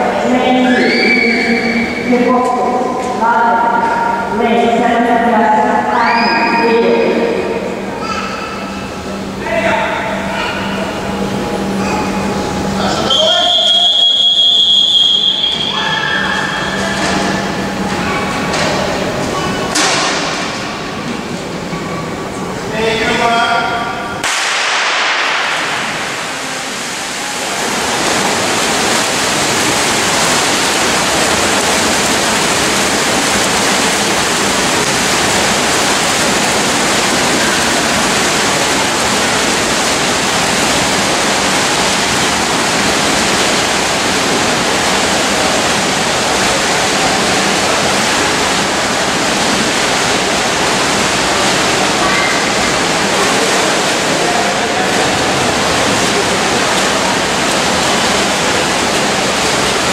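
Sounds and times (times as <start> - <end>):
swimmers splashing in echoing pool: 0.0 - 59.9.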